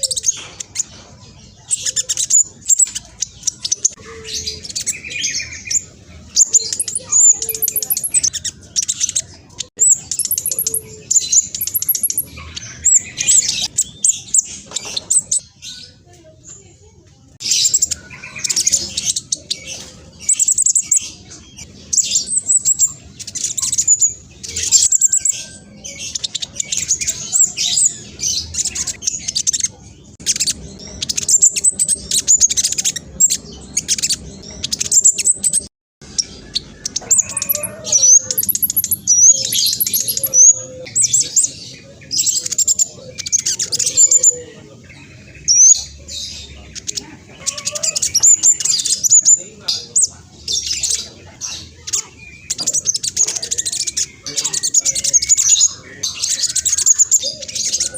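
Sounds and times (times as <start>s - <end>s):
bird singing rapid chirps and trills: 0.0s - 57.9s.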